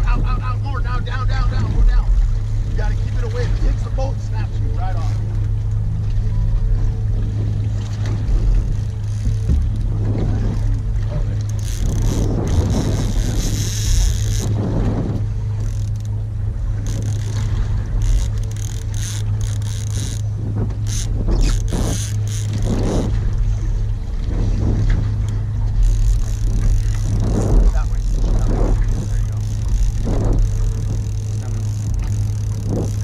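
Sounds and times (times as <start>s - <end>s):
outboard motor idling: 0.0s - 33.0s
rushes of noise: 1.3s - 33.0s.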